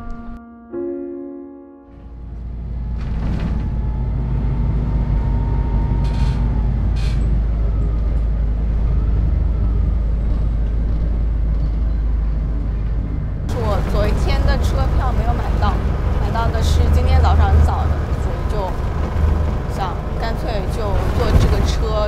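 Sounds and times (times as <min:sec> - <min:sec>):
bus engine rumble: 0:02.0 - 0:22.0.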